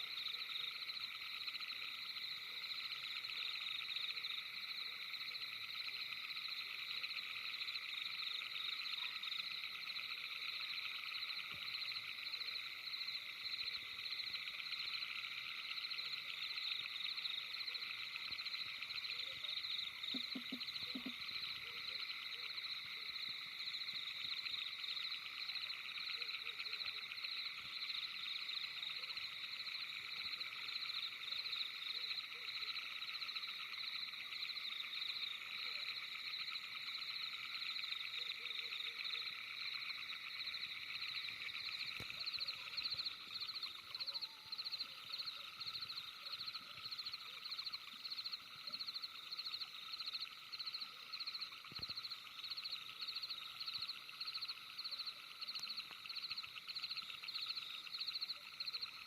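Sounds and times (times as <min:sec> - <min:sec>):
frogs calling: 0:00.0 - 0:59.0
insects trilling: 0:00.0 - 0:59.0.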